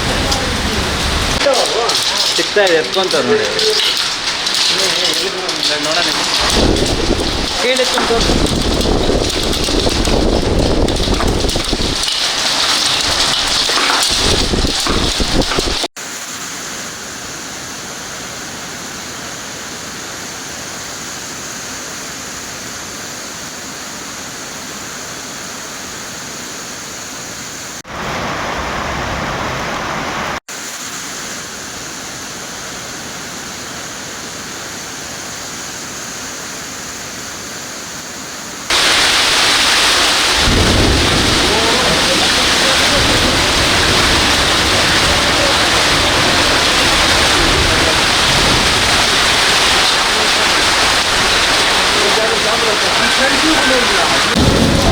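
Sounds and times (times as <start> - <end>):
heavy rain pouring: 0.0 - 22.6, 27.3 - 54.9.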